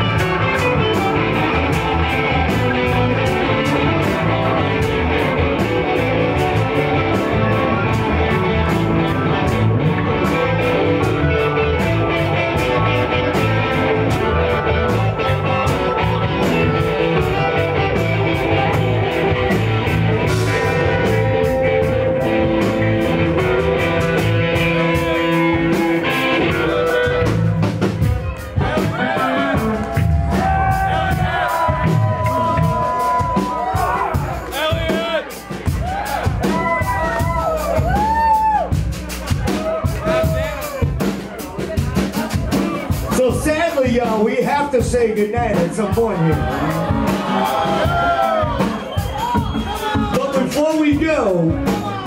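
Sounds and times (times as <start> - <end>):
electric guitars: 0.0 - 44.0, 44.9 - 50.6
drum kit beat: 0.0 - 52.0
electric bass: 0.0 - 52.0.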